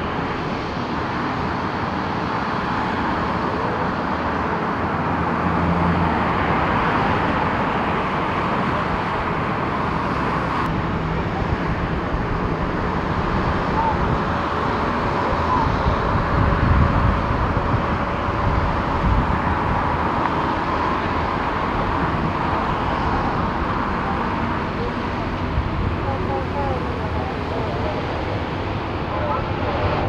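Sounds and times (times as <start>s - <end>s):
distant jet engine rush: 0.0s - 30.0s.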